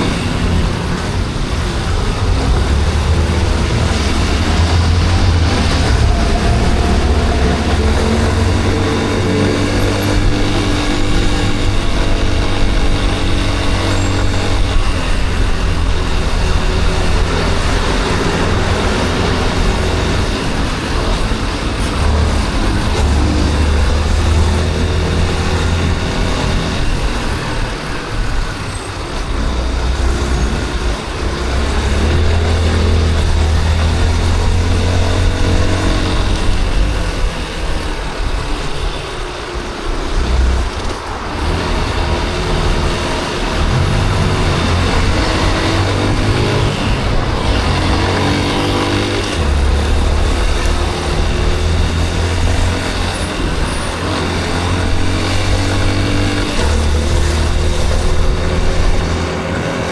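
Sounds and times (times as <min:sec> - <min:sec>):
city traffic: 0:00.0 - 0:59.9
motorcycle engine running: 0:00.0 - 0:59.9
wind and road noise: 0:00.0 - 0:59.9.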